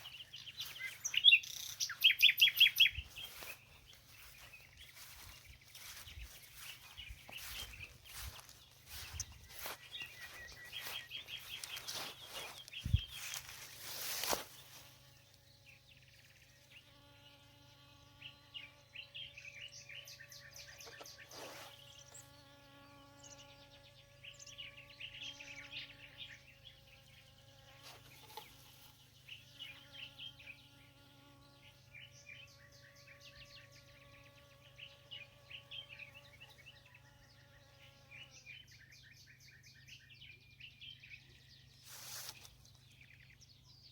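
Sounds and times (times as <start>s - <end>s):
bird chirps: 0.0s - 14.9s, 15.5s - 43.9s
faint buzzing drone: 0.0s - 40.6s.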